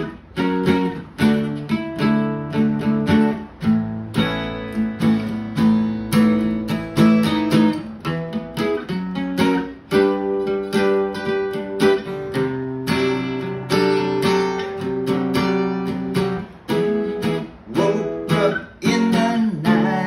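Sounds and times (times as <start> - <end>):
guitar strumming: 0.0 - 20.0.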